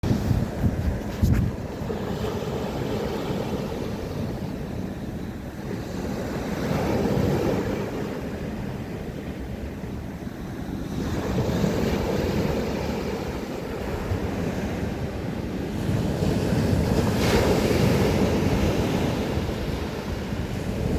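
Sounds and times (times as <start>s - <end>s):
surf washing against shore: 0.0s - 20.9s
wind rumbling on microphone: 0.0s - 20.9s.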